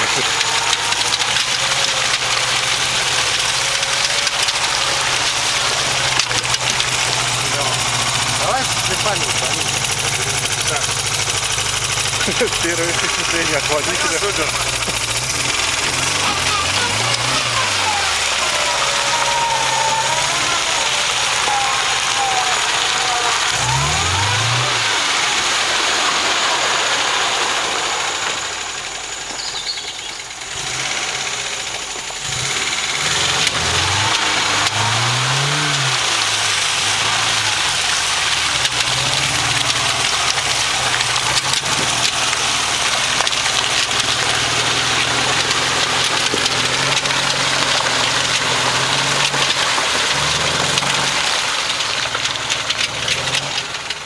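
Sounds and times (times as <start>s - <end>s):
constant hiss: 0.0s - 54.0s
truck engine driving through mud: 0.0s - 54.0s.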